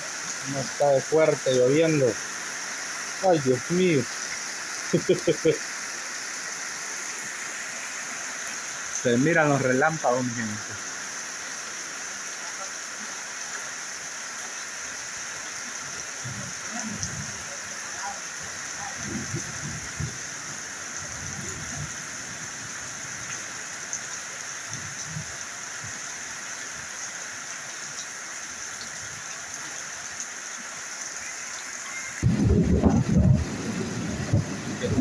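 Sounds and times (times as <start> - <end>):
rain on metal roofs: 0.0 - 35.0
water running off roof: 0.0 - 35.0.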